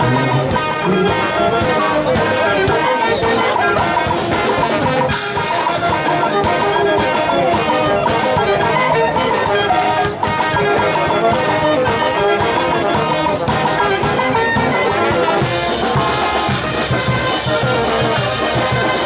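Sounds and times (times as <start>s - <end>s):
brass dance band music: 0.0s - 19.0s.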